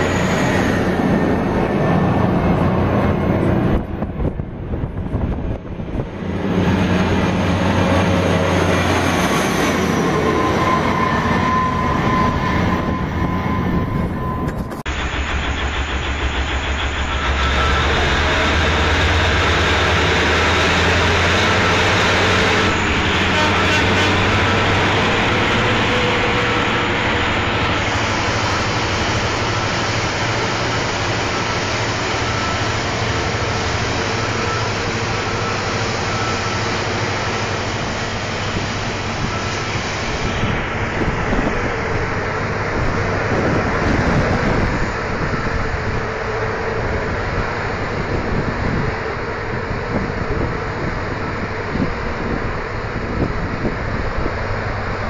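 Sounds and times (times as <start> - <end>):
large diesel engine hum: 0.0 - 55.0.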